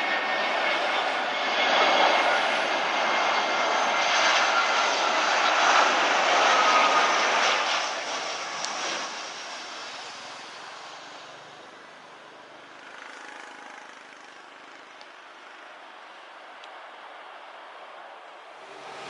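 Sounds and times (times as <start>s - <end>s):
jet engines at take-off thrust: 0.0s - 19.0s.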